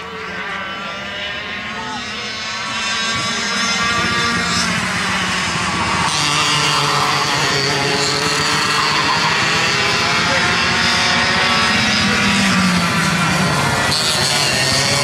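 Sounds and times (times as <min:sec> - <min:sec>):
go-kart engines racing: 0:00.0 - 0:15.0.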